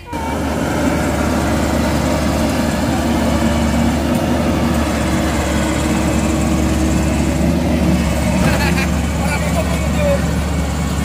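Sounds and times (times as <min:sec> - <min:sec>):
harvester diesel engine running: 0:00.0 - 0:11.0.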